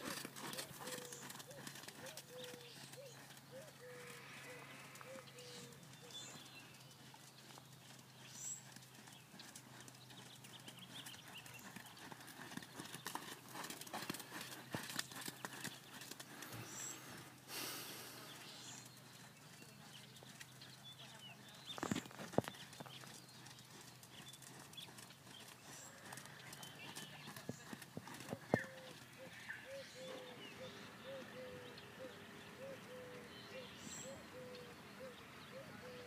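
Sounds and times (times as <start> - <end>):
hoofbeats in soft sand: 0.0 - 31.2.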